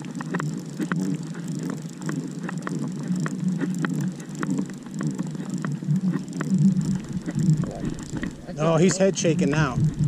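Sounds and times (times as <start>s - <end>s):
boat motor running: 0.0s - 10.0s
fishing reel ticking: 0.0s - 10.0s.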